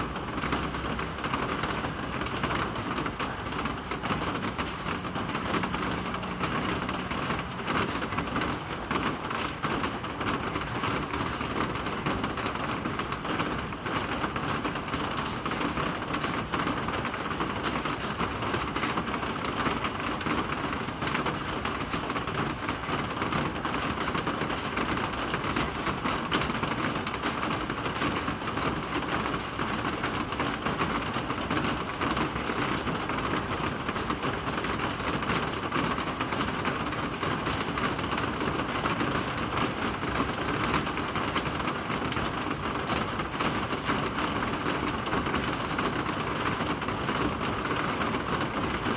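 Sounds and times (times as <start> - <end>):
rain patter: 0.0 - 48.9.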